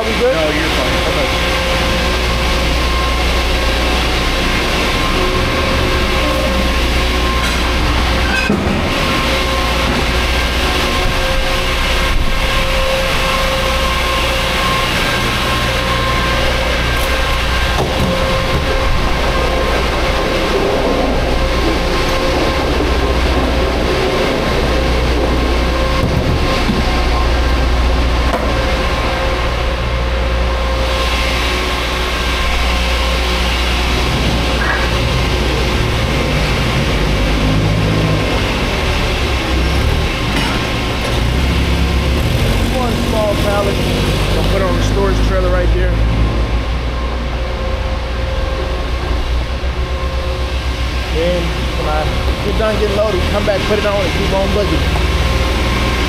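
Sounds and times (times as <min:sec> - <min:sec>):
steady tones: 0:00.0 - 0:56.0
truck engine droning: 0:00.0 - 0:56.0.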